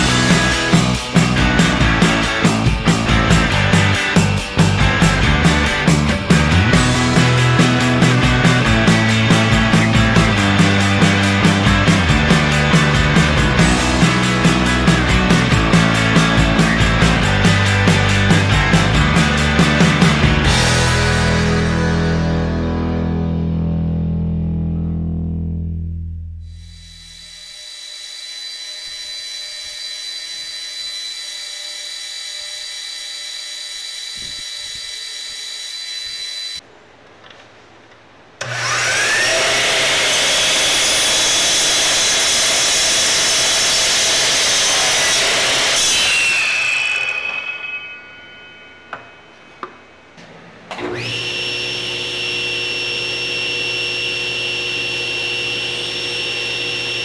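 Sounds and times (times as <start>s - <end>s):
belt grinder whining: 0.0s - 20.8s, 26.5s - 36.6s, 38.4s - 49.7s, 50.7s - 57.0s
miter saw cutting wood: 0.0s - 21.1s, 26.4s - 36.6s, 38.4s - 49.5s, 50.8s - 57.0s
table saw cutting wood: 0.0s - 21.2s, 26.4s - 36.6s, 38.4s - 49.7s, 50.8s - 57.0s.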